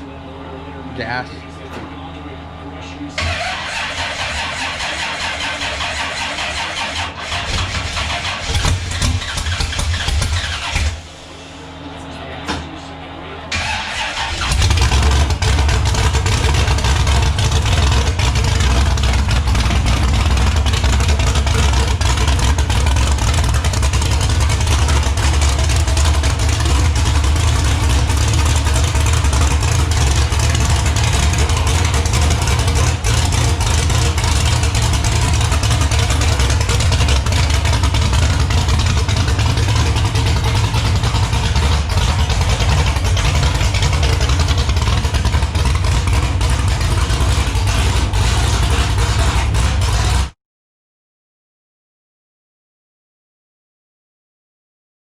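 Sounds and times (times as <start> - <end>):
engine and road rumble: 0.0 - 50.4.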